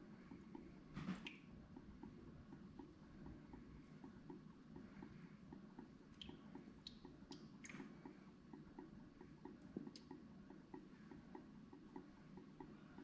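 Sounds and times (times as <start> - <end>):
faint steady ticking: 0.0 - 13.0.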